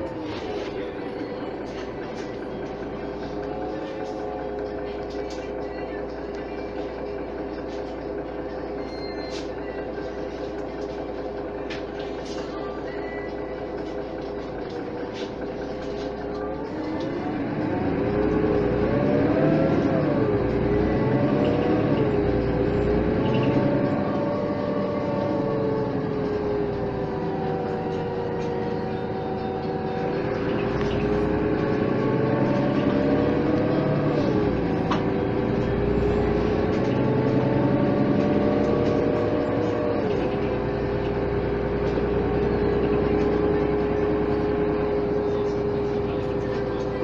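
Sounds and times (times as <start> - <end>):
bus diesel engine running: 0.0 - 47.0
road and tyre noise: 0.0 - 47.0.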